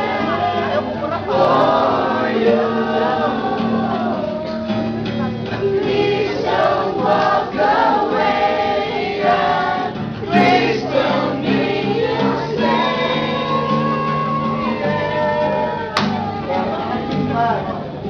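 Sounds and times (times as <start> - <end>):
young men singing together: 0.0 - 4.7, 5.6 - 15.8
acoustic guitar: 0.0 - 18.0.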